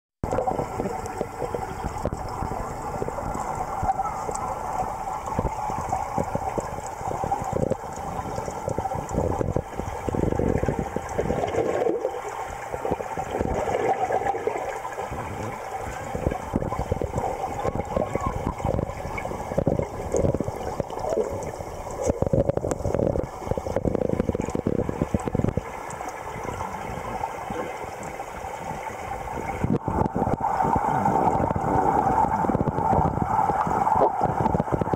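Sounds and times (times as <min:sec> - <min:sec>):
water rushing and gurgling: 0:00.2 - 0:34.9.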